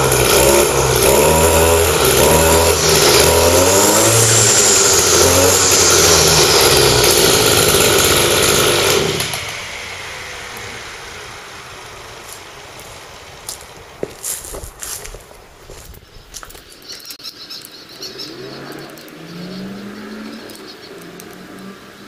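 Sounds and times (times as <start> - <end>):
brush cutter engine revving: 0.0 - 22.0.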